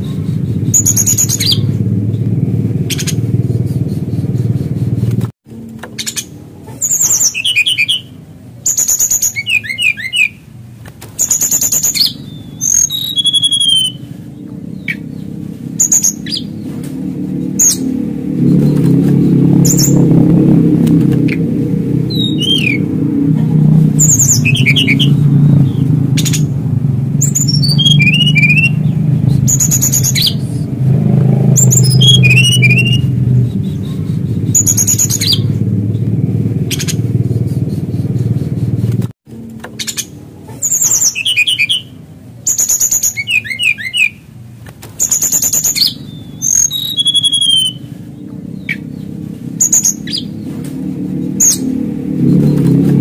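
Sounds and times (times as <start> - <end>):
flycatcher calling: 0.0 - 5.1, 5.8 - 10.5, 11.2 - 39.0, 39.7 - 44.3, 45.0 - 53.0
steady low hum: 0.0 - 41.2, 44.2 - 53.0.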